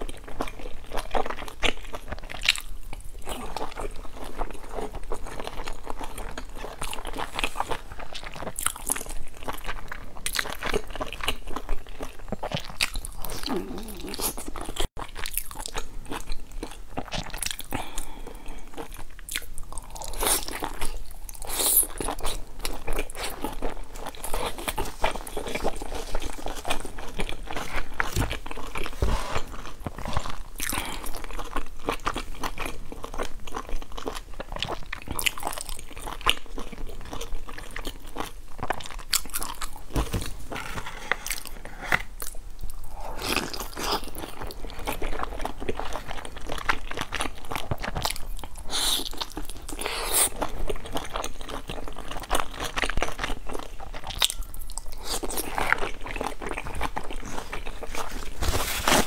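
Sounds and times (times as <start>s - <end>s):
crunchy chewing bites: 0.0s - 59.0s.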